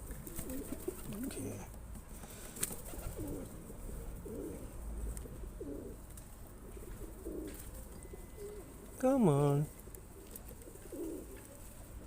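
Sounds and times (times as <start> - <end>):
pigeons cooing: 0.0 - 1.6, 2.4 - 9.0, 9.8 - 12.0.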